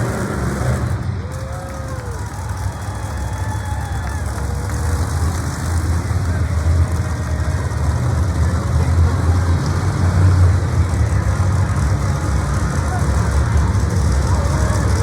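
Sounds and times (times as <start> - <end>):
large vehicle engine rumbling: 0.0 - 15.0.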